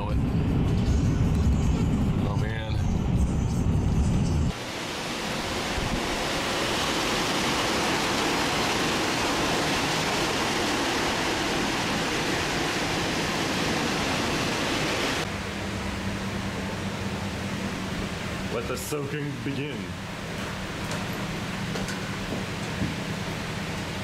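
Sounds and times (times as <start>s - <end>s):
wind and rain rushing: 0.0s - 24.0s.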